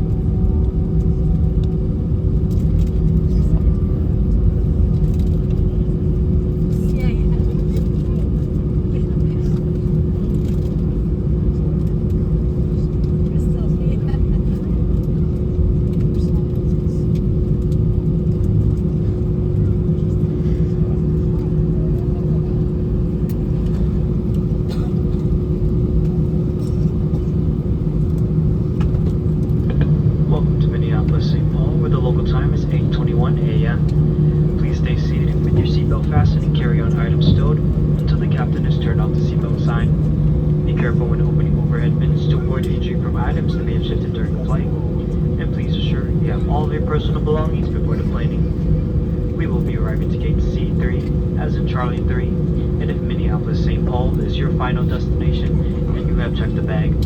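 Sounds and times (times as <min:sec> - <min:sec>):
constant cabin hum: 0:00.0 - 0:57.0
jet engine cabin rumble: 0:00.0 - 0:57.0.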